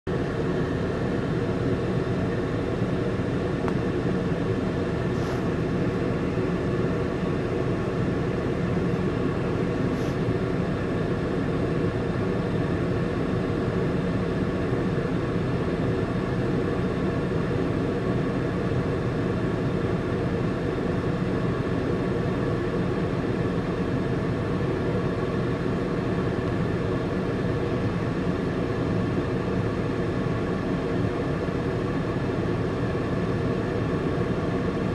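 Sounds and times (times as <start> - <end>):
car idling from inside cabin: 0.1 - 34.9.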